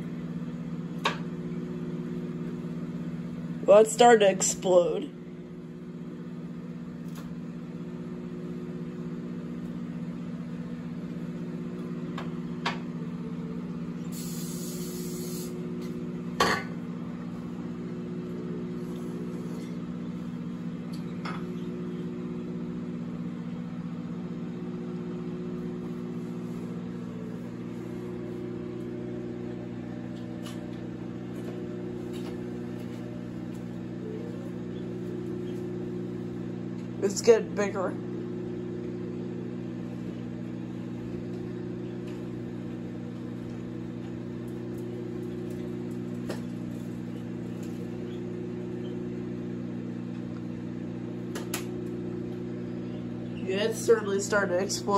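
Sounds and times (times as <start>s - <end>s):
microwave oven humming: 0.0s - 54.9s.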